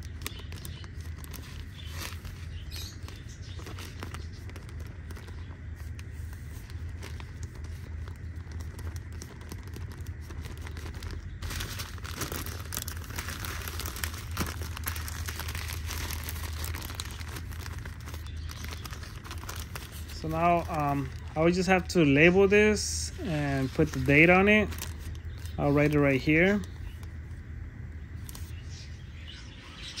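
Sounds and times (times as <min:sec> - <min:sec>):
plastic bag crinkling: 0:00.0 - 0:28.8
low steady hum: 0:00.0 - 0:30.0.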